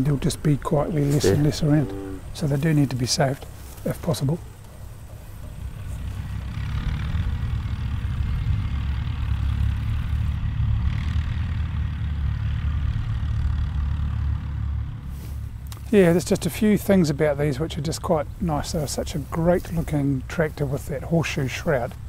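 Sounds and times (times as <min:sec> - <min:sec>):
tractor engine rumble: 0:00.0 - 0:22.0.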